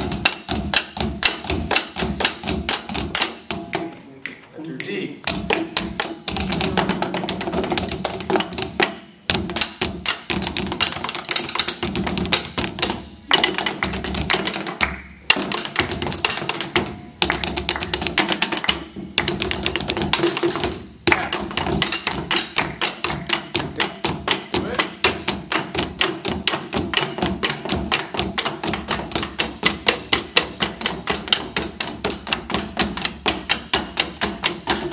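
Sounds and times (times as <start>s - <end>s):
drumsticks tapping practice pads: 0.0s - 34.9s.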